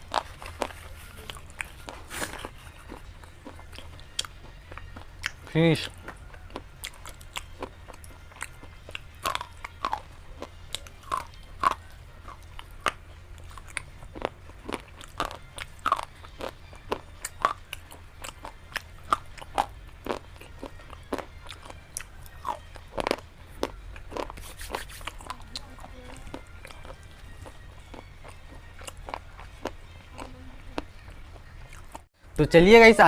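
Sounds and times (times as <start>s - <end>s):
crunchy chewing: 0.0s - 32.1s.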